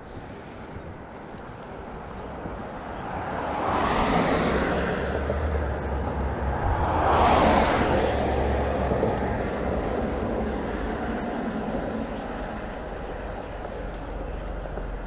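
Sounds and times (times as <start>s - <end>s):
cars passing overhead: 0.0s - 15.0s
steady low rumble: 0.0s - 15.0s.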